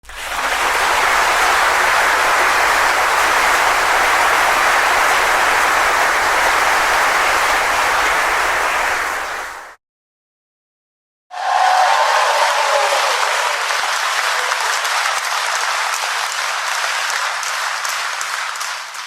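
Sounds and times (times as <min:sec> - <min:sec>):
large audience applauding: 0:00.0 - 0:09.8, 0:11.4 - 0:19.0.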